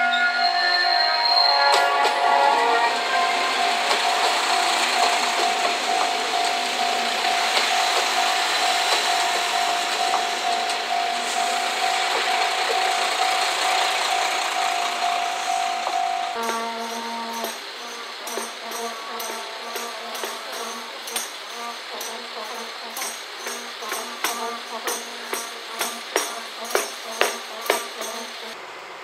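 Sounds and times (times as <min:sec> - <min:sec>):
steady high tone: 0:00.0 - 0:28.6
diesel railcars passing: 0:00.0 - 0:29.0
wheels rushing on rail: 0:00.0 - 0:29.0.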